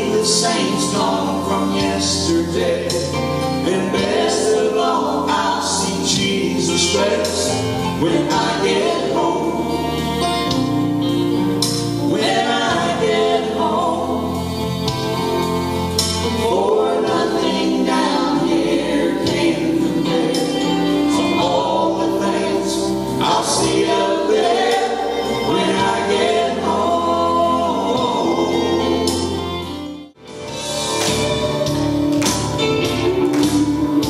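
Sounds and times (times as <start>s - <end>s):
gospel trio singing: 0.0s - 34.0s
musical backing: 0.0s - 34.0s.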